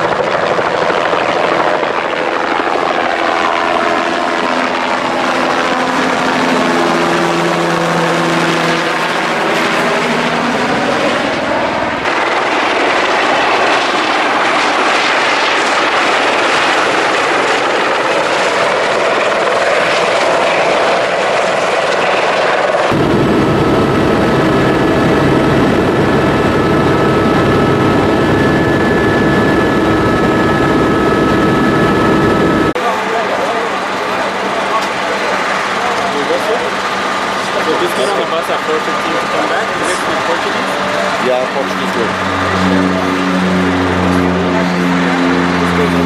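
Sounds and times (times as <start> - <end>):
helicopter engine and rotor: 0.0 - 46.0.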